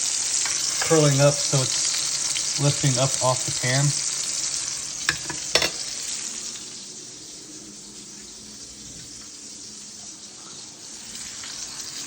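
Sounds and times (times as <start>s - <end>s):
steaks sizzling in a frying pan: 0.0s - 12.0s.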